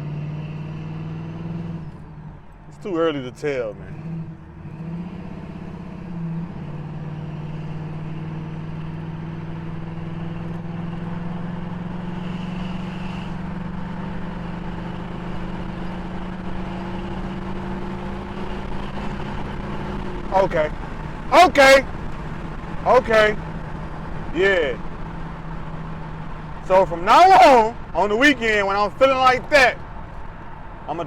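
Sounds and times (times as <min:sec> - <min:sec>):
car engine pulling under load: 0:00.0 - 0:31.0
road noise: 0:00.0 - 0:31.0.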